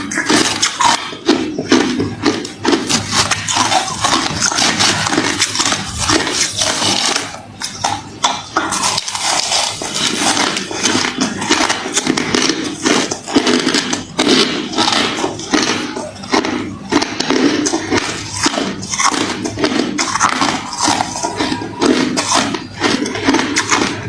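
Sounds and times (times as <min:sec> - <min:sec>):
crushed ice being chewed: 0:00.0 - 0:24.0.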